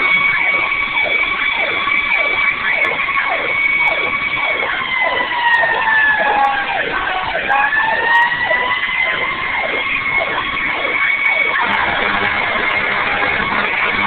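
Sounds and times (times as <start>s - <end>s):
siren in fast falling sweeps: 0.0s - 14.0s
steady high siren tone: 0.0s - 14.0s.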